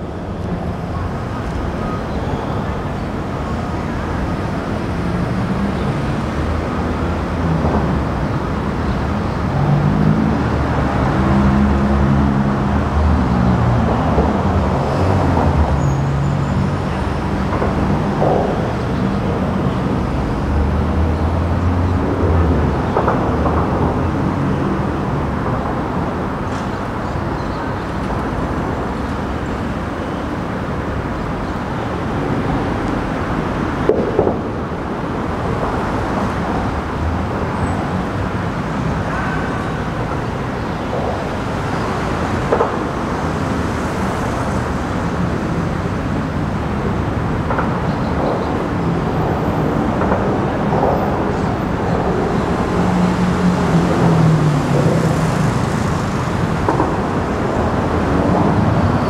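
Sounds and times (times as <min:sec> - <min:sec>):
low rumble of traffic: 0:00.0 - 0:59.0.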